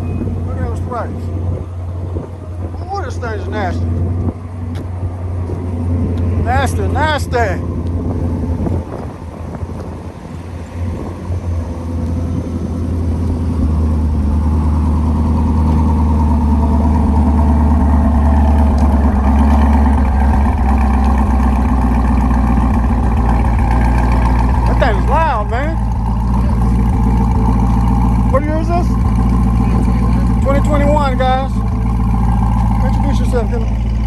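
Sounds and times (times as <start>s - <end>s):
car engine idling loudly: 0.0s - 34.0s.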